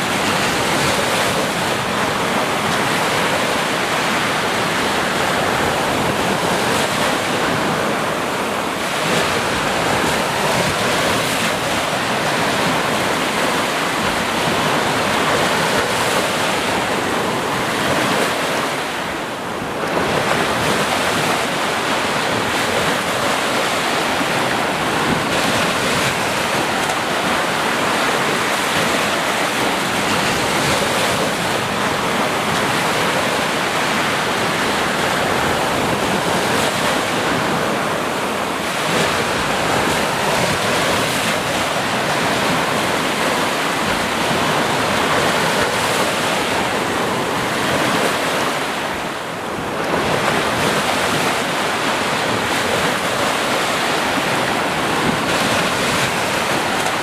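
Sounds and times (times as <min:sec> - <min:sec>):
sea surf washing onto shore: 0:00.0 - 0:57.0.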